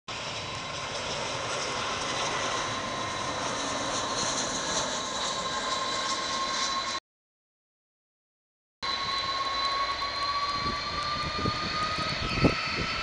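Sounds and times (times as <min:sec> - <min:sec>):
jet engine high whine: 0:00.1 - 0:07.0, 0:08.8 - 0:13.0
jet engine rush: 0:00.1 - 0:07.0, 0:08.8 - 0:13.0.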